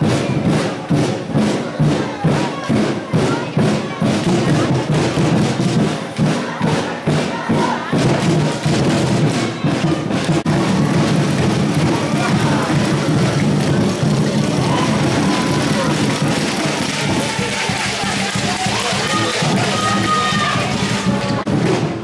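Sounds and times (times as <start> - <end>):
crowd voices: 0.0 - 22.0
music with thumping beat: 0.0 - 22.0.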